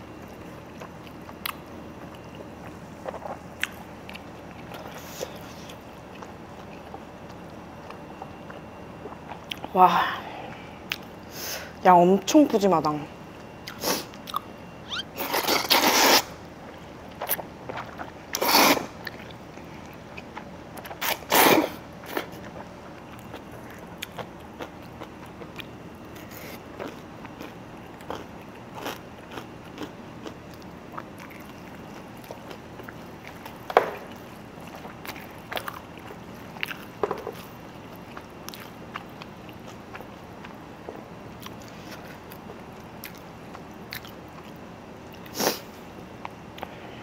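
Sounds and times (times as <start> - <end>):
person chewing food: 0.1 - 9.8, 13.6 - 21.3, 22.0 - 45.4.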